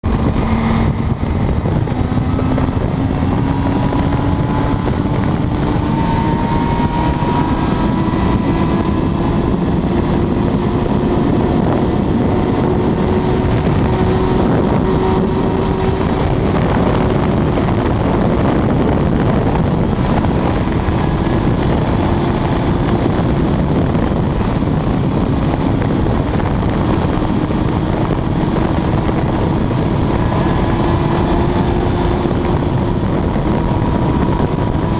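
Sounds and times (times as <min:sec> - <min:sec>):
motorcycle engine at high speed: 0:00.0 - 0:34.9
wind rushing: 0:00.0 - 0:34.9.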